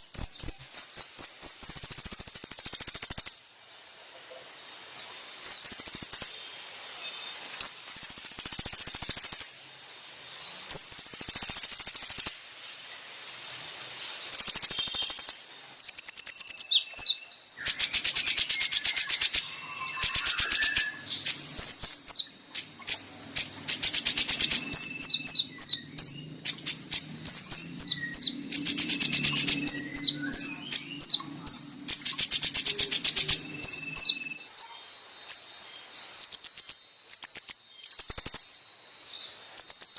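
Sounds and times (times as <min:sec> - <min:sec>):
bird rapid trills and chirps: 0:00.0 - 0:03.4, 0:05.1 - 0:06.6, 0:07.2 - 0:39.9.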